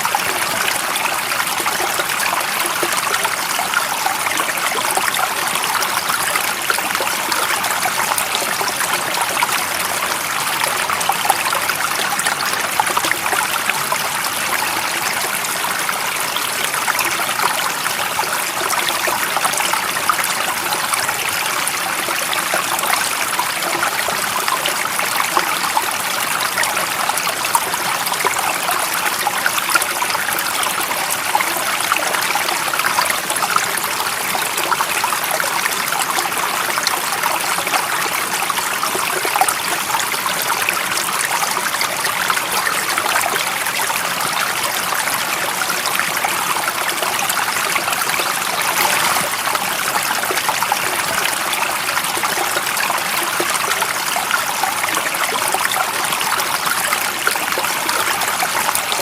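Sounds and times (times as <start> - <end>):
stream water trickling: 0.0 - 59.0.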